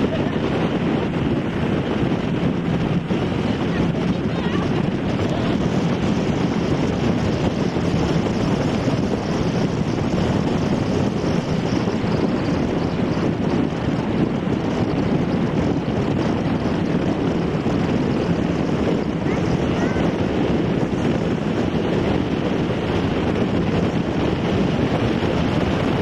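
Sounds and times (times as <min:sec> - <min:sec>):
boat engine rumble: 0:00.0 - 0:26.0
wind noise on microphone: 0:00.0 - 0:26.0.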